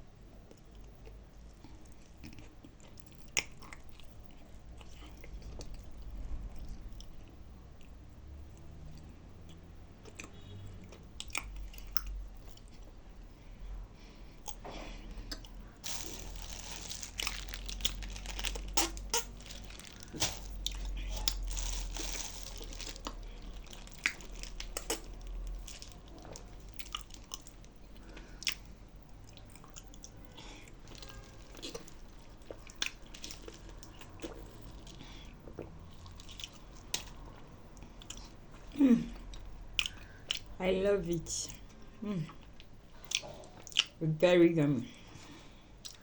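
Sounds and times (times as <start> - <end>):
crunchy chewing: 0.5 - 7.9, 8.6 - 13.0, 14.4 - 40.6.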